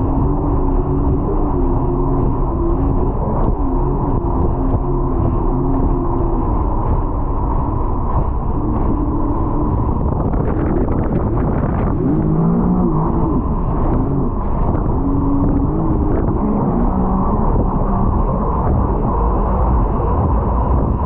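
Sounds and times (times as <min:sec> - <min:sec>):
jet ski engine rumble: 0:00.0 - 0:21.0
wind and water noise: 0:00.0 - 0:21.0.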